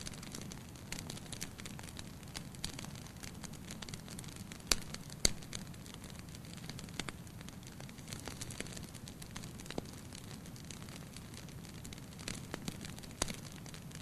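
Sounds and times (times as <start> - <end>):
fire popping loudly: 0.0 - 14.0
fire rumbling: 0.0 - 14.0
wood fire crackling: 0.0 - 14.0.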